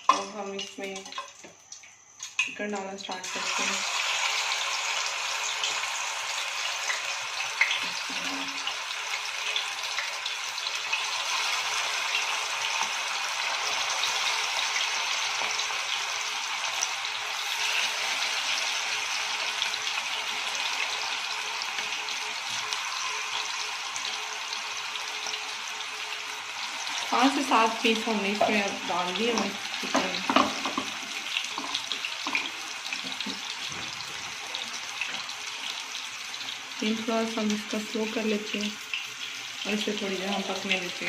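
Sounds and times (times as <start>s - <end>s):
chicken sizzling in hot oil: 0.0s - 41.0s.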